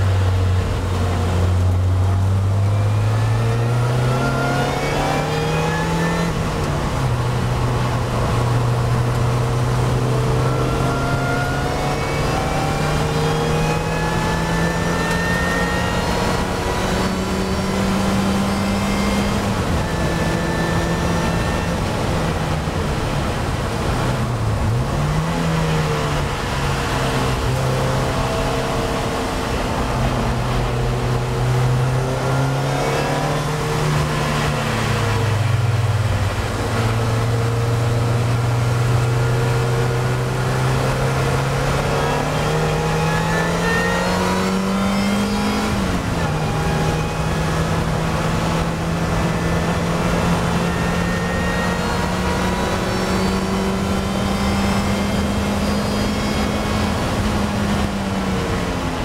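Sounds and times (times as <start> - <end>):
road and wind noise: 0.0 - 59.0
sports car engine running hard: 0.0 - 59.0.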